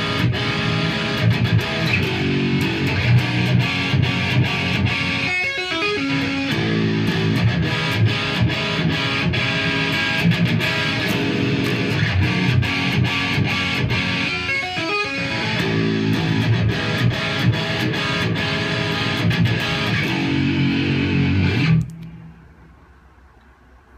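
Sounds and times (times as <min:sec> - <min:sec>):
electric guitar riff: 0:00.0 - 0:22.5
faint room noise: 0:00.0 - 0:23.9.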